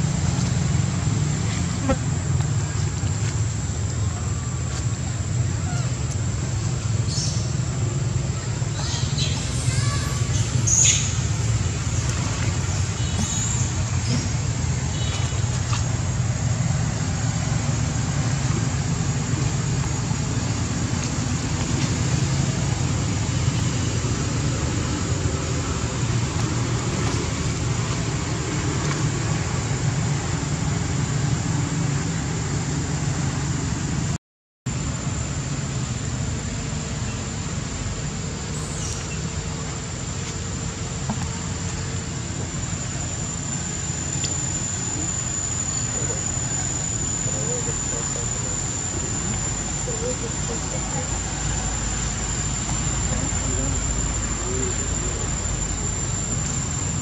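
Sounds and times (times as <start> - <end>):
low rumbling background noise: 0.0 - 57.0.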